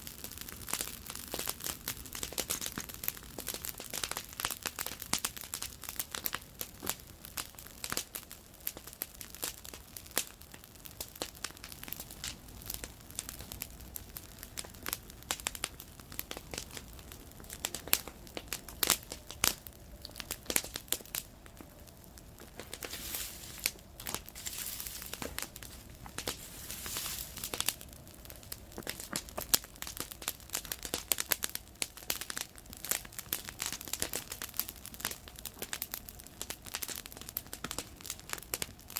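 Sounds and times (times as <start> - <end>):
fire pops and snaps: 0.0 - 38.9
wood campfire crackling: 0.0 - 38.9.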